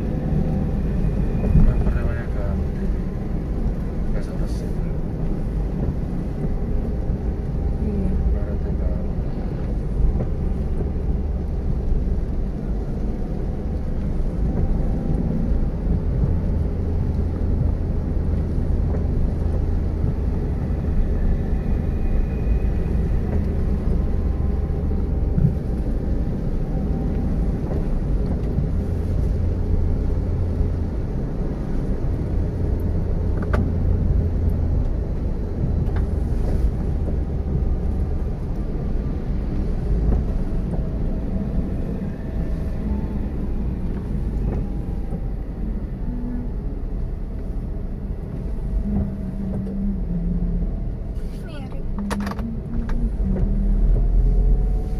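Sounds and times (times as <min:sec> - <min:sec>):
car interior engine and tyre rumble: 0:00.0 - 0:54.9.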